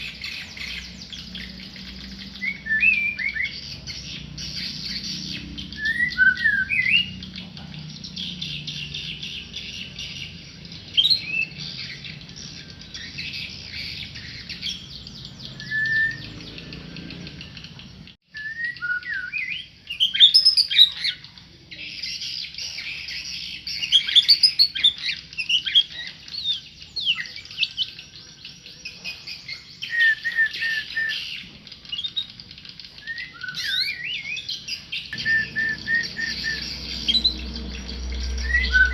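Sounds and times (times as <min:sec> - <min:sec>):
songbird singing whistled phrases: 0:00.0 - 0:07.3, 0:08.4 - 0:38.9
dense bird twittering: 0:00.0 - 0:38.9.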